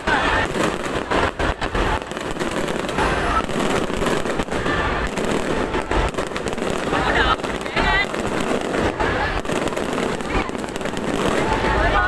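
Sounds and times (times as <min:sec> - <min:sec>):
fireworks bangs and booms: 0:00.0 - 0:12.0.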